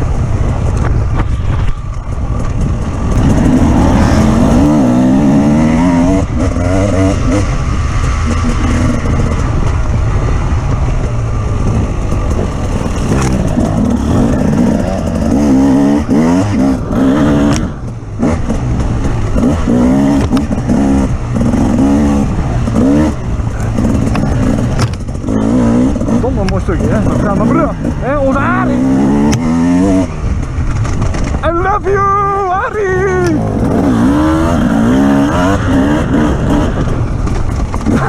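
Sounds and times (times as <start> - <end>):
off-road vehicle engine revving: 2.4 - 38.0.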